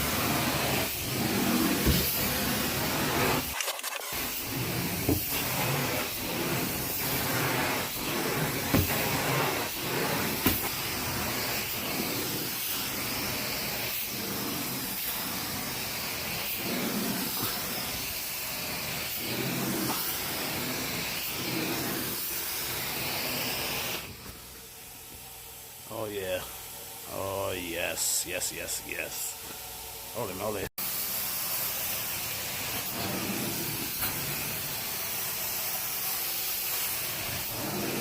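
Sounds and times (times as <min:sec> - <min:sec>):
carpet extraction wand hissing: 0:00.0 - 0:38.0.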